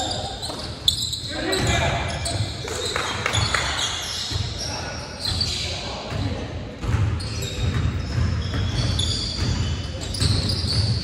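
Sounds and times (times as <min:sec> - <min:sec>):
shoe squeaks: 0:00.0 - 0:06.0, 0:07.2 - 0:11.0
players' voices echoing: 0:00.0 - 0:11.0
basketball bouncing on court: 0:00.4 - 0:11.0.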